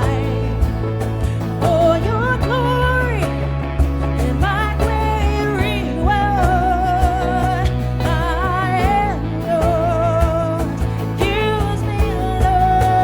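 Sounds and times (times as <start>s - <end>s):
worship band playing: 0.0s - 13.0s.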